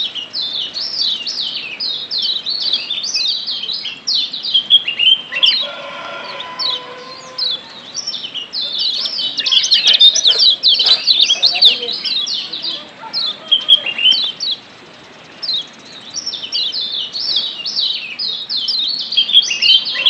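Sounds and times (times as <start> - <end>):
bird chirping rapidly: 0.0 - 20.0.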